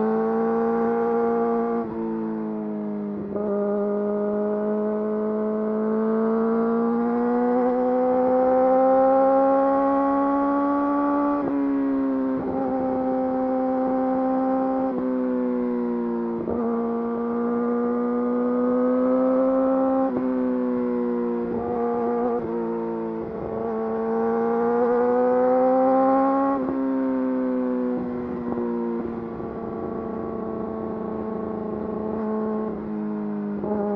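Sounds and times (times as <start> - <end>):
motorcycle engine accelerating: 0.0 - 2.2, 3.1 - 33.9.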